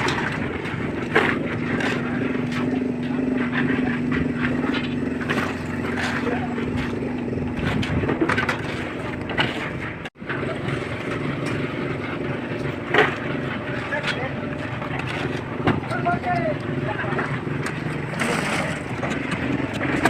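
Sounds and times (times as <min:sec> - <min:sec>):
tools knocking and scraping: 0:00.0 - 0:10.4, 0:11.1 - 0:20.0
concrete mixer running: 0:00.0 - 0:20.0.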